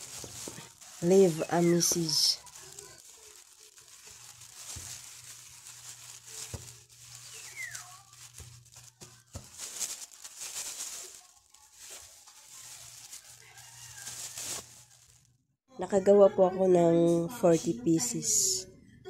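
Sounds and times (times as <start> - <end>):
plastic bag crinkling: 0.0 - 15.3
seeds pattering against steel bowl: 0.0 - 15.3.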